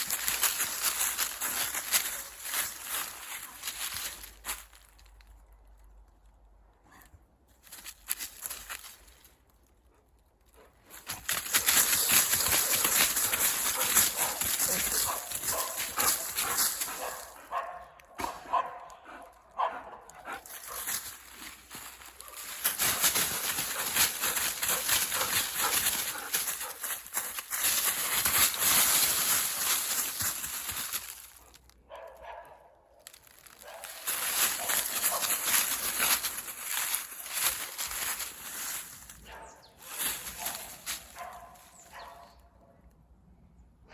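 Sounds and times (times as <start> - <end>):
footsteps on dry leaves: 0.0 - 5.6, 7.6 - 9.9, 10.5 - 18.4, 20.1 - 31.8, 33.0 - 42.4.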